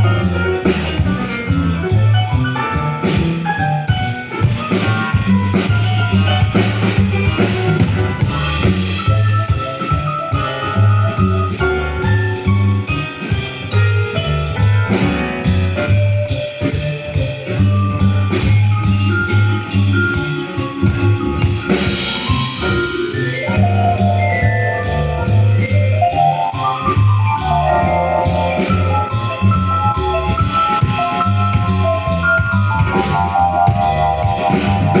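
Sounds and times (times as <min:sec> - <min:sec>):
drum kit cymbals: 0:00.0 - 0:35.0
fast melodic runs: 0:00.0 - 0:35.0
low bass line: 0:00.0 - 0:35.0.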